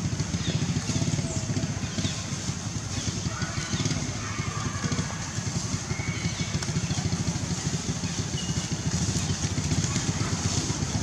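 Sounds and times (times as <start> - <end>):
engine running with low pulsing: 0.0 - 11.0.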